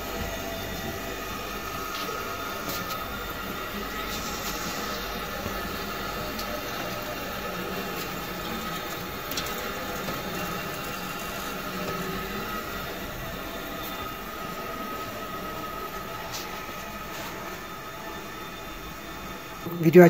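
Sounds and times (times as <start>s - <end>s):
faint steady whine: 0.0s - 20.0s
refrigerator compressor drone: 0.0s - 20.0s.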